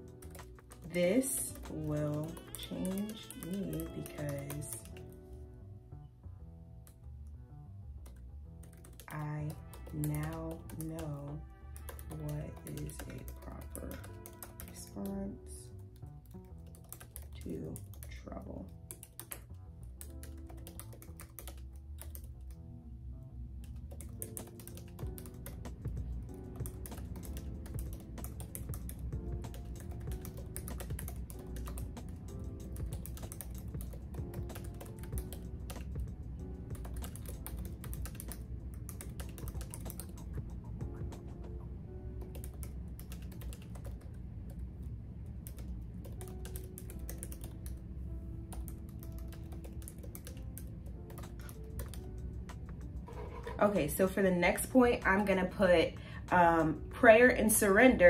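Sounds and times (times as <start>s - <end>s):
fast keyboard typing: 0.0s - 5.2s, 8.0s - 22.6s, 23.7s - 41.4s, 42.2s - 44.2s, 45.4s - 47.8s, 48.5s - 55.7s
soft background music: 0.0s - 58.0s.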